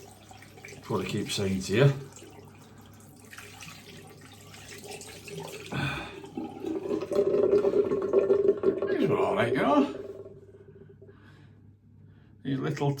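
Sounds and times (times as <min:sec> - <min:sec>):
tap water running into sink: 0:00.0 - 0:10.4.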